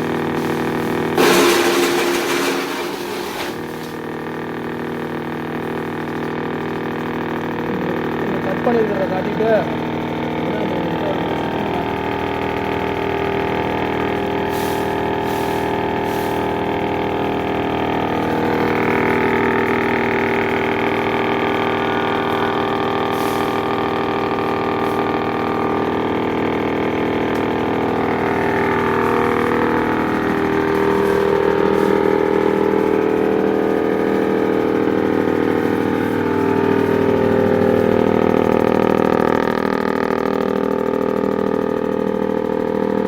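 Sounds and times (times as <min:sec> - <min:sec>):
chaff cutter mechanical hum: 0:00.0 - 0:43.0.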